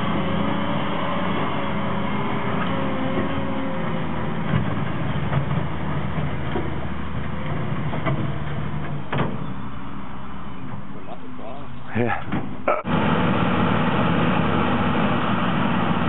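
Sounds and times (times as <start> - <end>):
diesel machinery engine running: 0.0 - 16.0.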